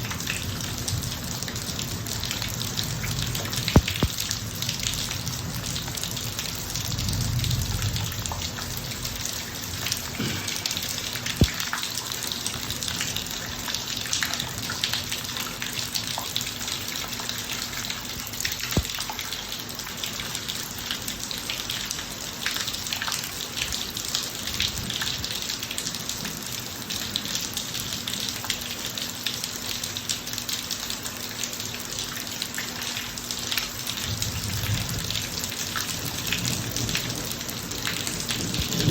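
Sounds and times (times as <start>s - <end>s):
rain on pavement: 0.0s - 38.9s.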